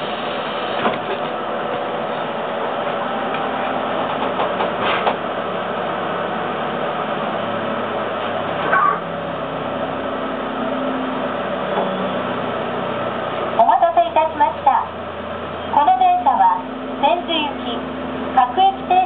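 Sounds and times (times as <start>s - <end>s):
train cabin mechanical hum: 0.0s - 19.0s.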